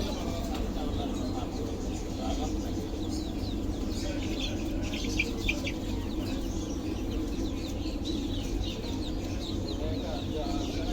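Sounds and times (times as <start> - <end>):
caged birds chirping: 0.0 - 10.9.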